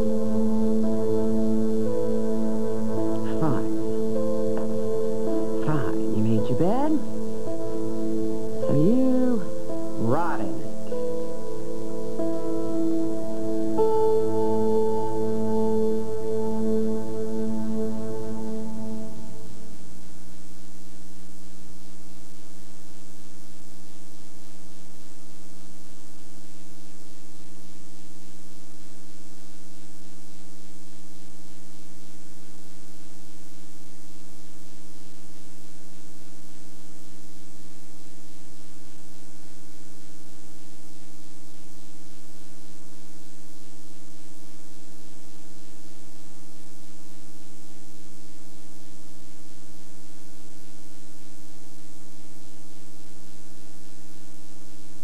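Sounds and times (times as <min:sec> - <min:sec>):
electrical buzzing hum with hiss: 0:00.0 - 0:55.0.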